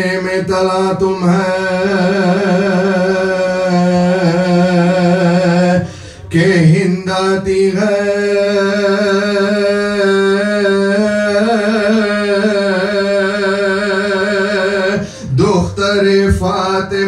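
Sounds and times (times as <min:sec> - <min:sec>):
man chanting: 0:00.0 - 0:17.0
steady drone: 0:00.0 - 0:17.0.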